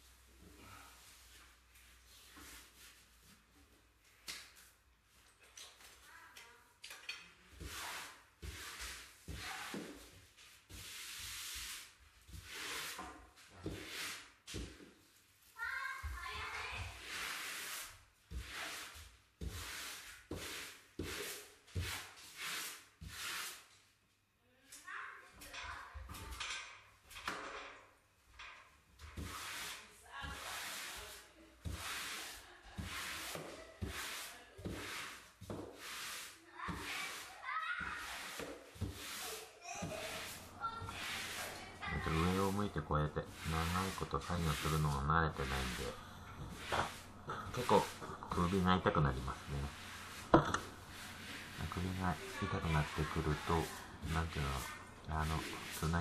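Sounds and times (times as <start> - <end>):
brush swishing over wallpaper: 0.0 - 6.4, 7.4 - 24.0, 29.0 - 56.0.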